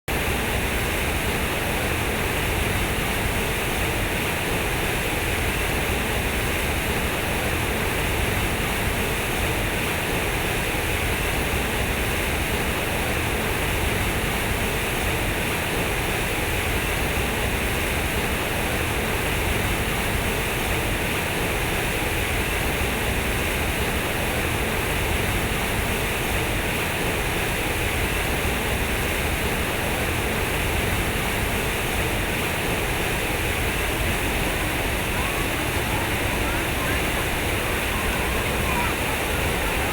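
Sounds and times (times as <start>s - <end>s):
fountain water splashing: 0.1s - 39.9s.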